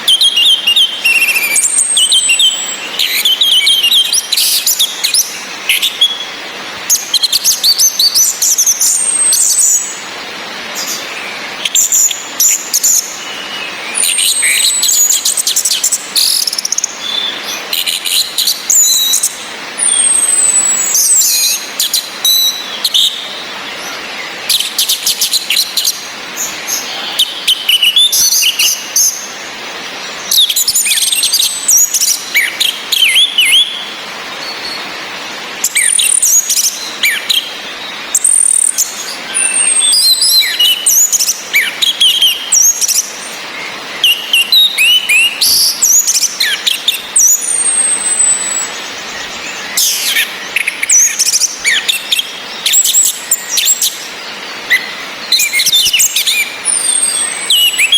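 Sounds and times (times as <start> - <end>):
thrushes chirping and whistling: 0.0 - 10.0, 10.8 - 29.4, 30.1 - 34.8, 35.6 - 57.9
rain hiss: 0.0 - 57.9.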